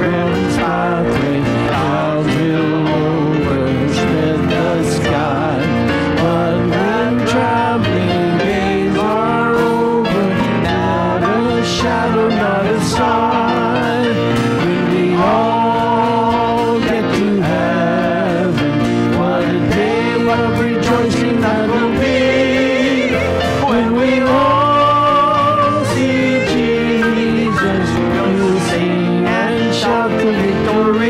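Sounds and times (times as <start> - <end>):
acoustic guitar: 0.0 - 31.0
group singing a hymn: 0.0 - 31.0
piano: 0.0 - 31.0.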